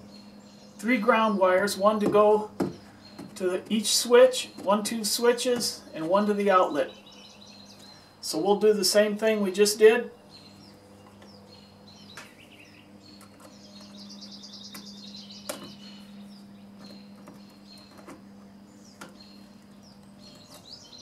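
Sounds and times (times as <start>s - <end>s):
birds chirping: 0.0s - 21.0s
steady low hum: 0.0s - 21.0s.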